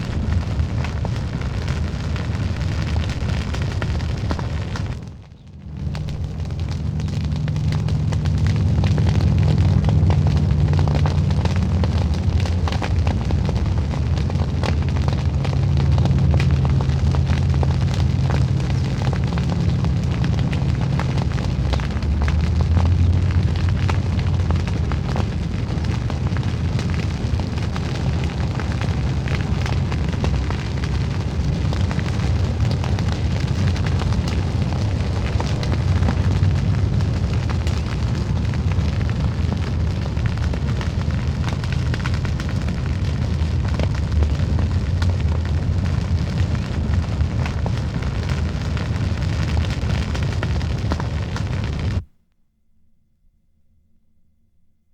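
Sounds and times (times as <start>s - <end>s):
crackling of burning stubble: 0.0s - 52.1s
low roar of flames: 0.0s - 52.1s.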